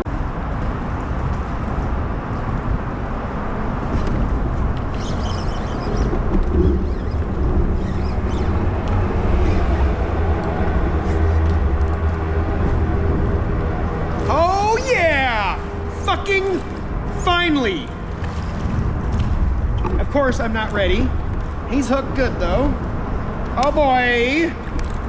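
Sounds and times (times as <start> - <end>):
traffic rumble: 0.0 - 25.0.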